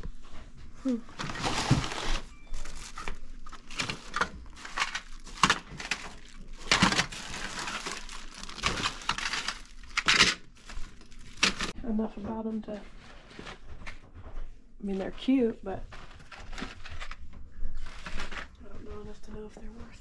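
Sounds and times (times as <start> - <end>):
objects rustling and clattering: 0.0 - 20.0.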